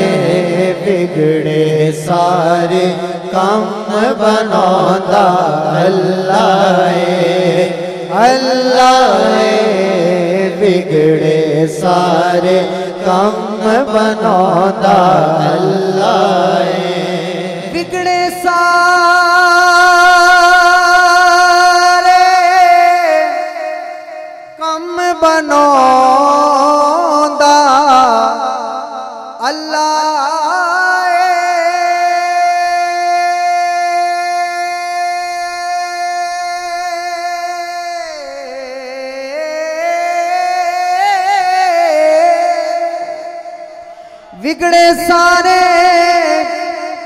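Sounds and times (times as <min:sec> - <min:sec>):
man singing a long note: 0:00.0 - 0:47.0.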